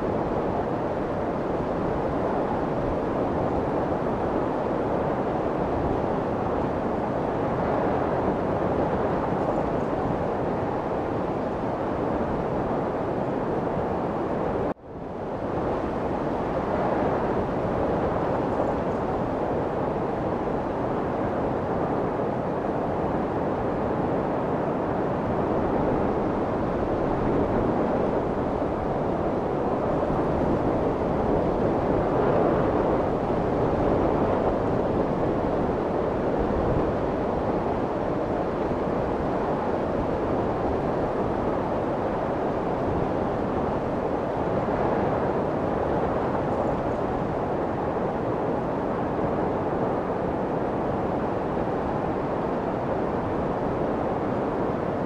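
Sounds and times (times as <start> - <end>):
rushing white noise: 0.0 - 55.0.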